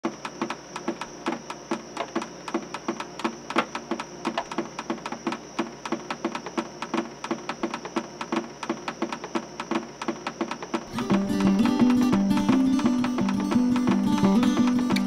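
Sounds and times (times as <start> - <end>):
low knocks rhythm: 0.0 - 15.0.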